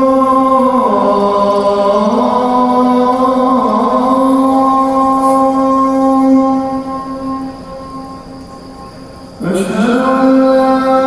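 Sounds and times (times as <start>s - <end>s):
call to prayer over loudspeakers: 0.0s - 11.0s.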